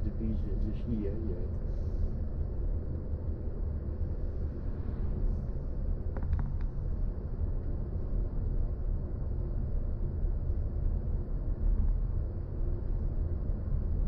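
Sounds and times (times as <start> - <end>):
car road and tyre rumble: 0.0 - 14.0.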